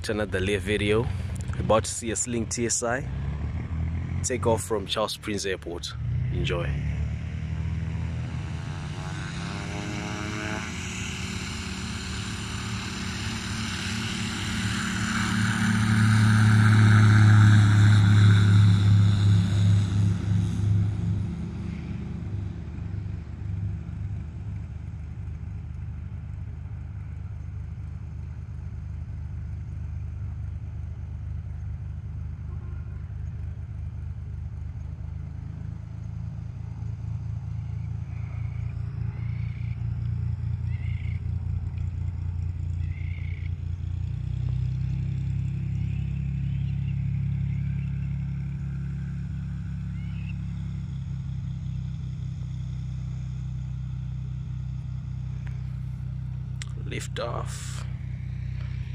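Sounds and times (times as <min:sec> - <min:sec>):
light aircraft engine and propeller: 0:00.0 - 0:58.9.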